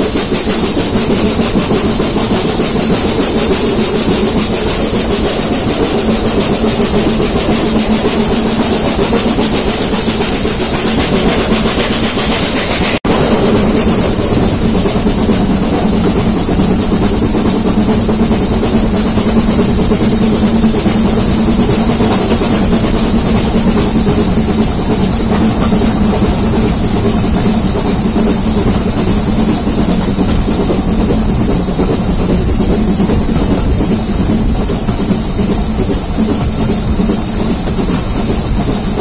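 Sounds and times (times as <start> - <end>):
steam hiss: 0.0 - 39.0
train rumble: 0.0 - 39.0.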